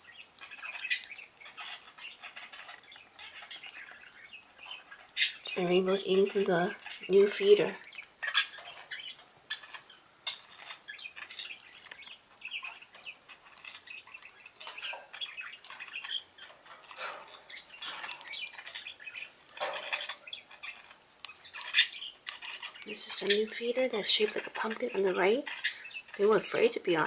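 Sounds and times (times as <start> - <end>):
beaks pecking at seed: 0.0 - 27.0
budgerigars chirping: 0.0 - 27.0.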